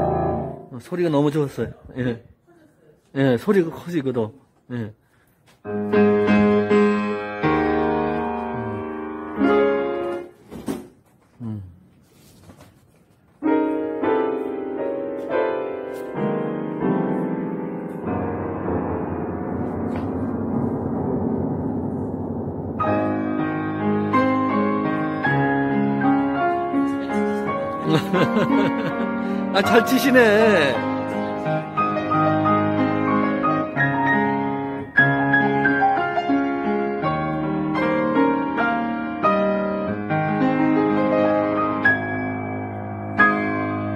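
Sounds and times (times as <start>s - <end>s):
piano chords ringing: 0.0s - 1.2s, 5.7s - 10.4s, 13.4s - 43.9s.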